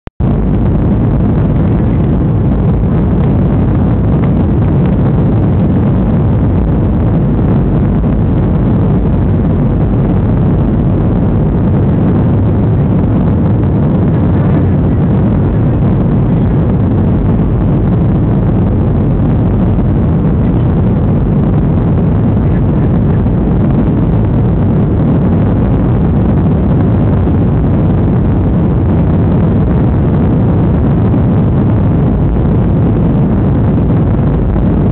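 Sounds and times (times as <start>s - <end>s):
jet engine and airflow roar: 0.2s - 34.9s.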